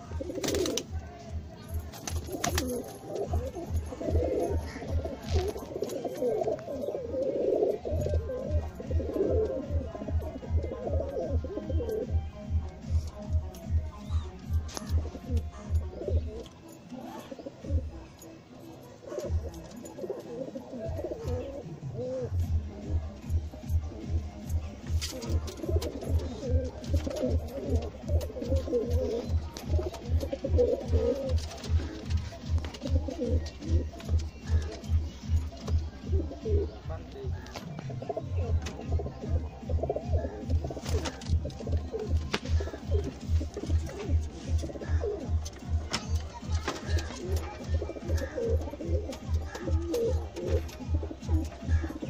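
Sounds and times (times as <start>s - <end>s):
pigeons cooing: 0.0s - 0.9s, 2.0s - 18.2s, 18.8s - 52.0s
background music with low beat: 0.0s - 52.0s.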